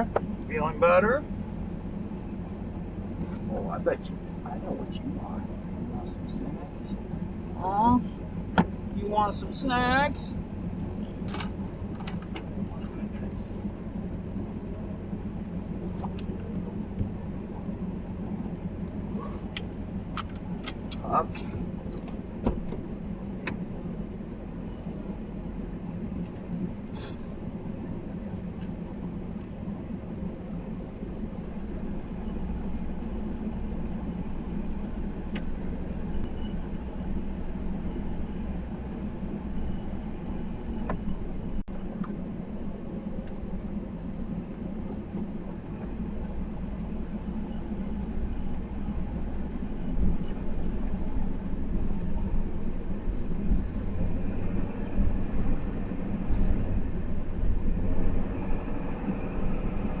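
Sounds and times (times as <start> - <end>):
truck engine drone from cab: 0.0 - 60.0.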